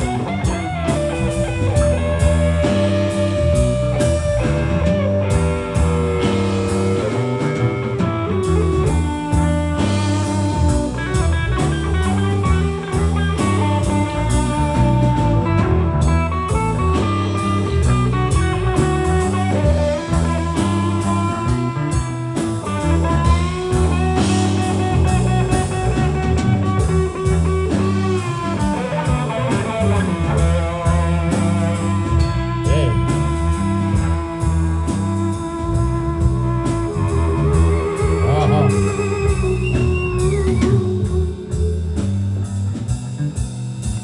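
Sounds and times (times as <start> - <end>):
electric guitar bending notes: 0.0 - 43.5
bass riff: 0.0 - 44.0
drums: 0.0 - 44.0.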